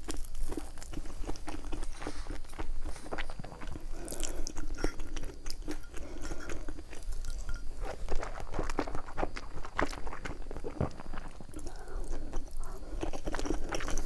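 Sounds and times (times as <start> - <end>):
crunchy chewing of food: 0.0 - 14.0.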